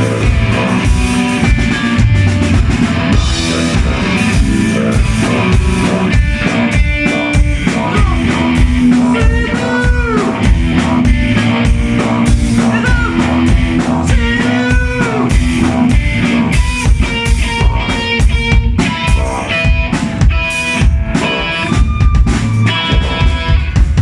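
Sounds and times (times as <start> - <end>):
drum kit beat: 0.0 - 24.0
electric guitar bent notes: 0.0 - 24.0.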